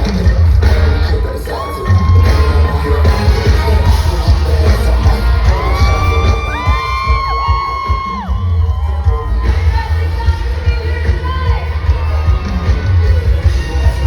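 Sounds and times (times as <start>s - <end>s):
crowd shouting and whooping: 0.0s - 14.0s
r and b song over loudspeakers: 0.0s - 14.0s.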